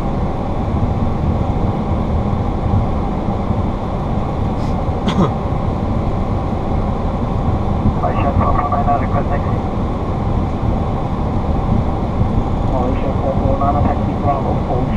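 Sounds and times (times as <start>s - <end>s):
aircraft taxiing rumble: 0.0s - 14.9s.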